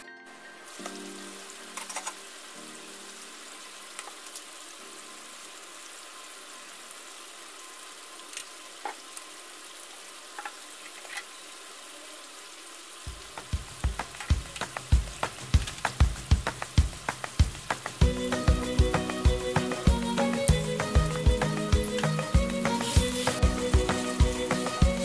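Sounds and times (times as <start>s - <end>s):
gravy sizzling in a wok: 0.5s - 25.0s.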